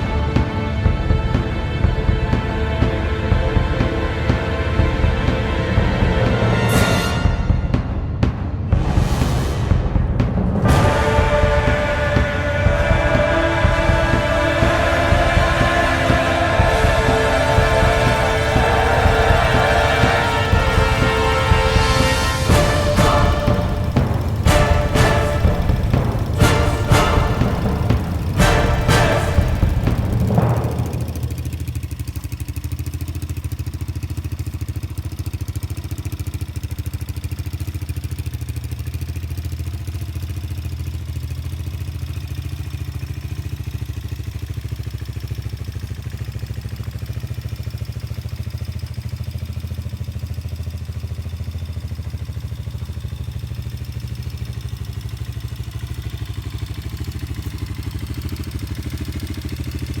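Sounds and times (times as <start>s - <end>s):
dirt bike engine idling: 0.0s - 60.0s.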